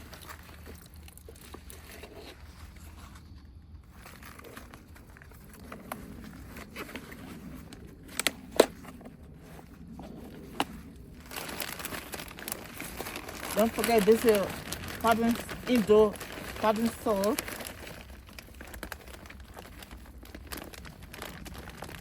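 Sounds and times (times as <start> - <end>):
low steady hum: 0.0 - 22.0
soil and pots rustling: 0.0 - 22.0.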